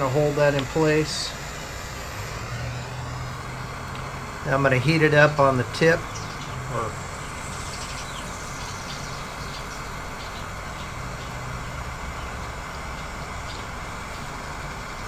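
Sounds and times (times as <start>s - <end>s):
gas torch burning: 0.0s - 15.0s.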